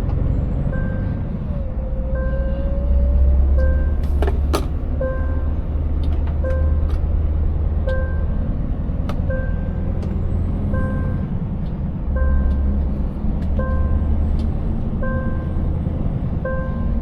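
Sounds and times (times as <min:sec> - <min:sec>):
truck engine rumble: 0:00.0 - 0:17.0.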